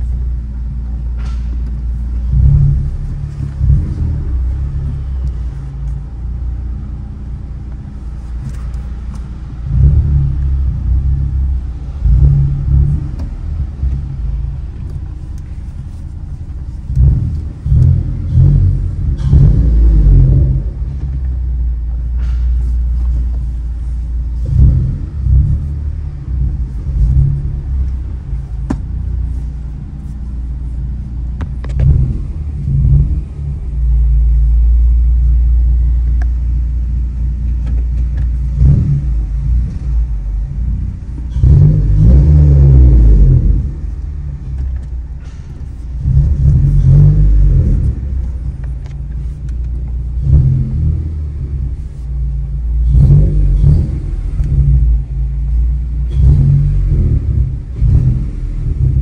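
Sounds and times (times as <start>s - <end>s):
car engine rumble: 0.0s - 59.0s.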